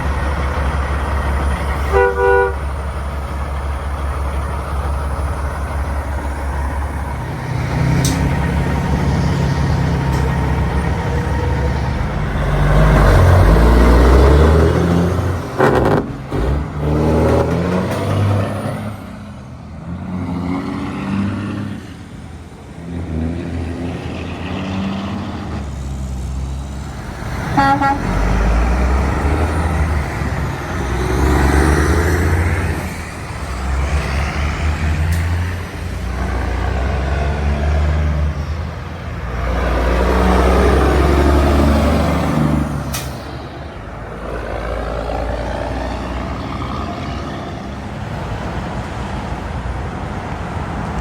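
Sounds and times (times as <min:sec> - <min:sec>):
heavy truck engine shifting gears: 0:00.0 - 0:51.0.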